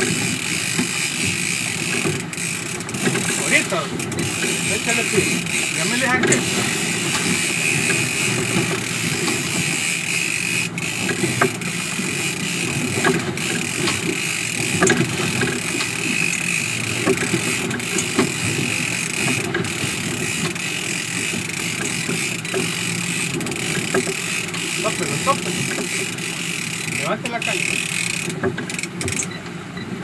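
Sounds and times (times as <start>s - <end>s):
wake water rushing: 0.0s - 29.3s
boat engines running: 0.0s - 30.0s.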